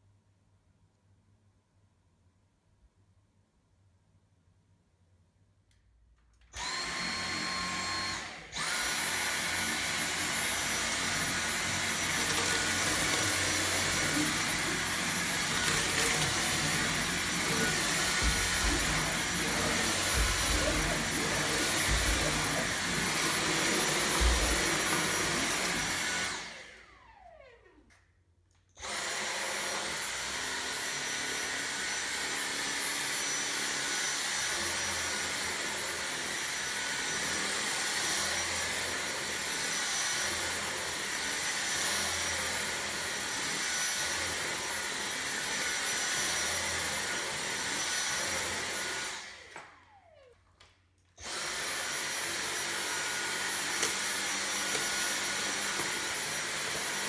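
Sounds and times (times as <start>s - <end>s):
vacuum cleaner whining: 6.6s - 28.0s, 28.8s - 57.0s.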